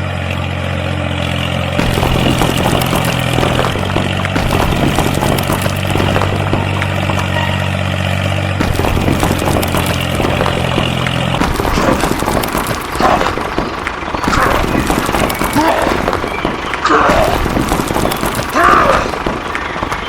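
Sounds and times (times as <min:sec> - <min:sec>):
clatter: 0:00.0 - 0:20.0.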